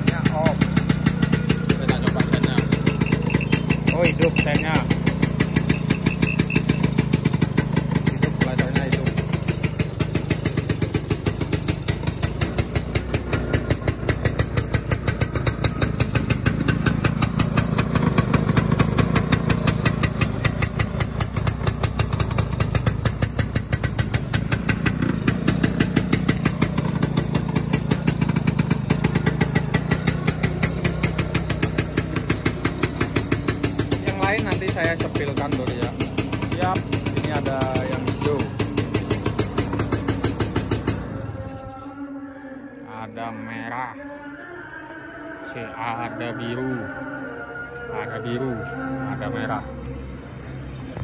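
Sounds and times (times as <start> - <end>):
two-stroke engine idling: 0.0 - 44.3, 44.9 - 51.0.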